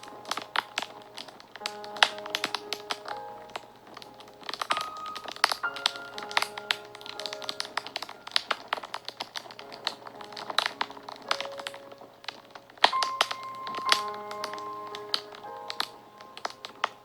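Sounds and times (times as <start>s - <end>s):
soft music of long held notes: 0.0s - 17.0s
wood fire crackling and popping: 0.0s - 17.0s.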